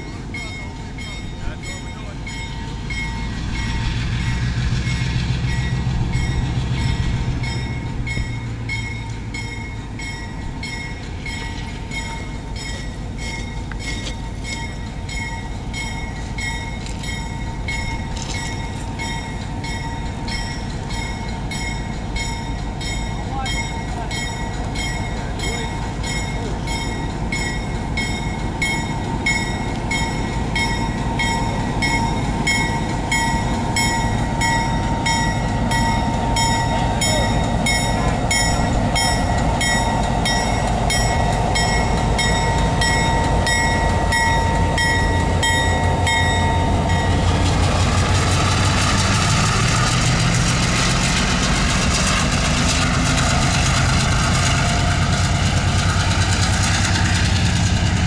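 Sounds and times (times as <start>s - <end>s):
diesel locomotive engine: 0.0s - 58.0s
locomotive bell ringing: 0.0s - 58.0s.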